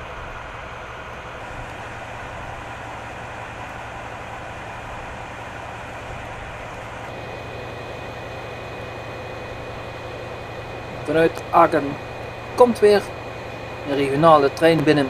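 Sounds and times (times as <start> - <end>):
diesel locomotive idling: 0.0 - 15.0
faint high whine: 0.0 - 15.0.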